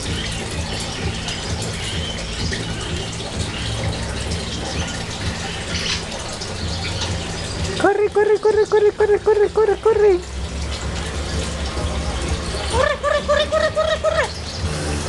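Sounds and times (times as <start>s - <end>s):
background rush with low hum: 0.0s - 15.0s.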